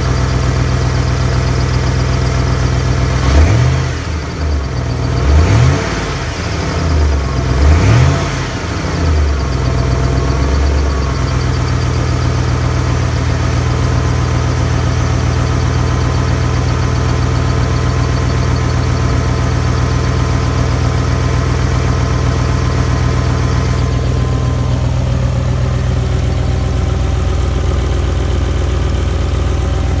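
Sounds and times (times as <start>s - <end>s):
car engine revving and idling: 0.0s - 30.0s
loud engine ticking: 0.0s - 30.0s.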